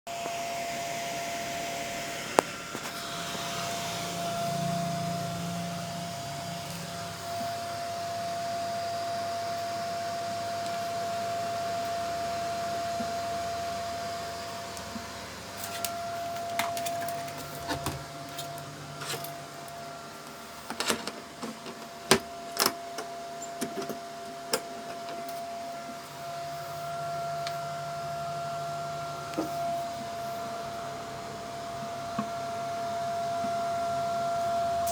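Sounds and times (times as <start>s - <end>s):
incubator fan hum: 0.1s - 34.9s.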